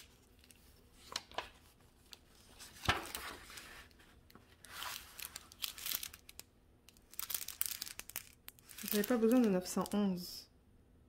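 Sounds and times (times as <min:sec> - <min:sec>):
paper and plastic bags rustling: 0:00.0 - 0:06.4, 0:07.1 - 0:10.0.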